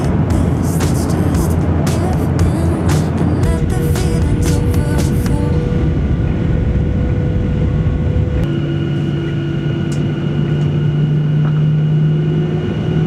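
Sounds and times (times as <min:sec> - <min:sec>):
engine hum with high whine: 0:00.0 - 0:13.0
jet engine and air roar: 0:00.0 - 0:13.0.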